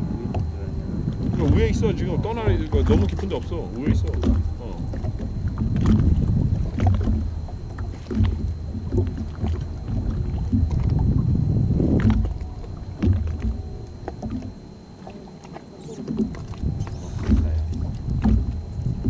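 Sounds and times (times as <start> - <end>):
waves slapping against hull: 0.0 - 19.0
knocks and splashes: 1.1 - 19.0.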